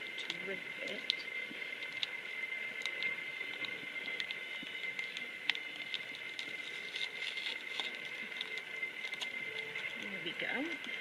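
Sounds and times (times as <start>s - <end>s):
steady high-pitched whine: 0.0s - 11.0s
wrapper crinkling: 0.1s - 11.0s.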